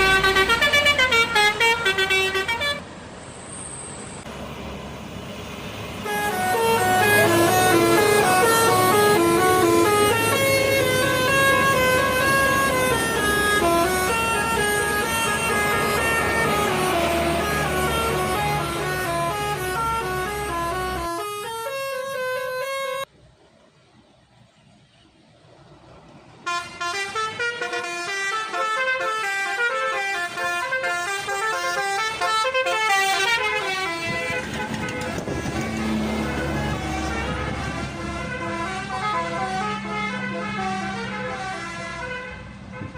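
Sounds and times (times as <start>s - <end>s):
bus horn playing a tune: 0.0s - 2.9s, 6.0s - 23.1s, 26.4s - 42.9s.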